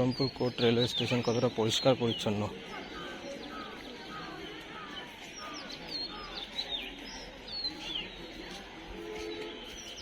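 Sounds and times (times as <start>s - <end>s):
small birds chirping: 0.0s - 10.0s
steady background noise: 0.0s - 10.0s.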